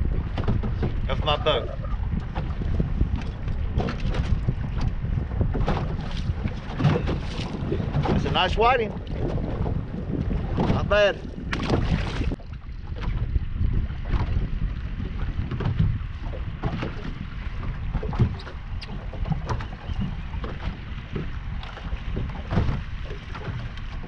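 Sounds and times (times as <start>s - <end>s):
waves slapping boat hull: 0.0s - 24.0s
wind buffeting microphone: 0.0s - 24.0s.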